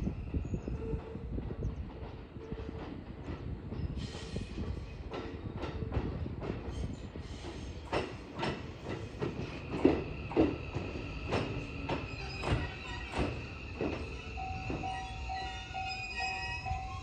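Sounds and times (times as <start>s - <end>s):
train rumbling: 0.0s - 17.0s
train wheel clacks: 0.9s - 15.2s.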